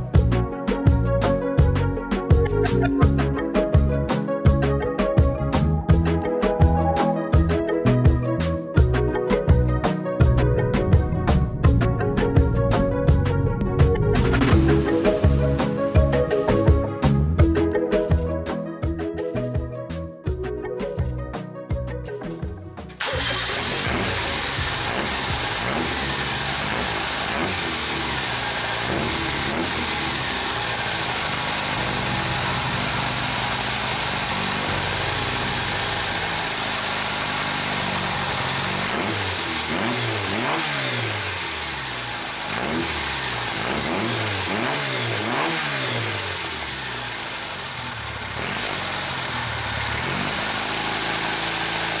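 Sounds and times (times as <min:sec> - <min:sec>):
car engine idling and revving: 0:00.0 - 0:19.7, 0:22.2 - 0:52.0.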